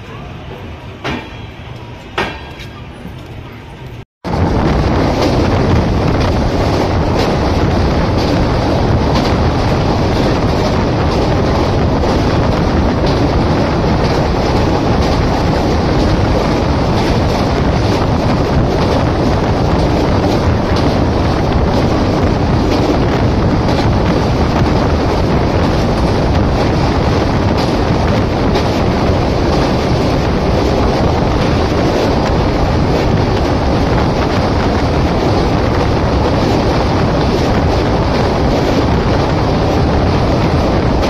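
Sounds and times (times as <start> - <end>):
train rail and wheel noise: 0.0 - 41.0
wind buffeting microphone: 4.2 - 41.0.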